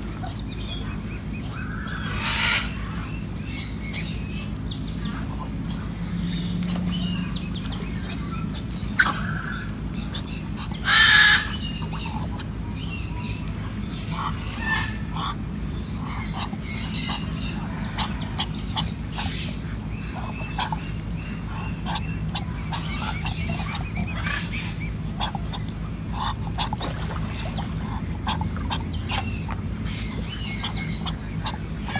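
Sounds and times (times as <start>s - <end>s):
birds calling: 0.0s - 31.9s
steady low hum: 0.0s - 31.9s.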